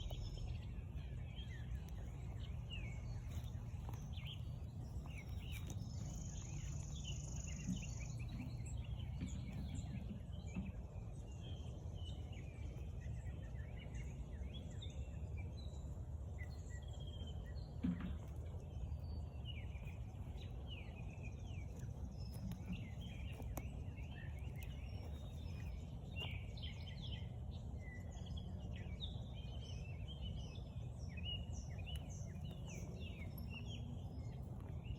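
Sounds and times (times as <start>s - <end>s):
birds chirping and singing: 0.0s - 34.9s
low outdoor rumble: 0.0s - 34.9s.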